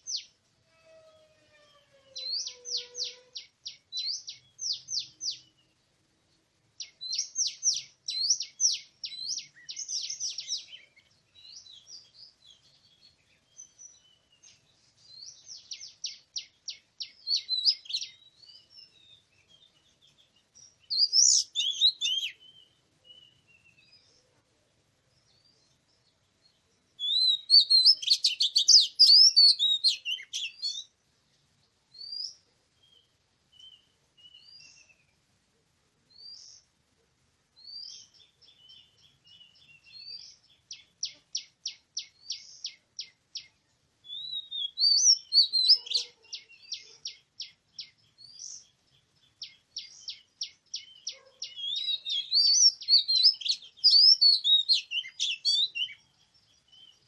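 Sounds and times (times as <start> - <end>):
bird singing whistled song: 0.0 - 0.3, 2.2 - 5.8, 6.8 - 24.1, 26.4 - 30.9, 31.9 - 35.2, 36.1 - 36.6, 37.6 - 57.0.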